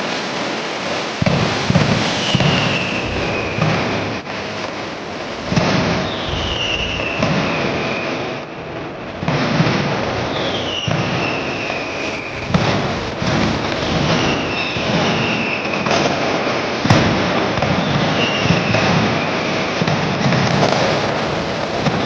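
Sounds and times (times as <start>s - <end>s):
fireworks crackling and banging: 0.0s - 22.0s
falling firework whistles: 1.2s - 22.0s.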